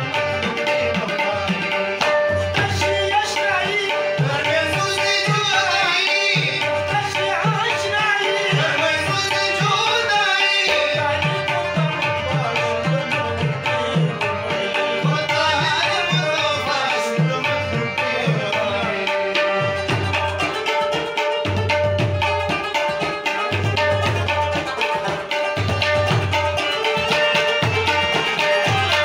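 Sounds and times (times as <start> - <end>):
harmonium chord: 0.0 - 29.0
man singing: 0.0 - 29.0
tabla rhythm: 0.0 - 29.0.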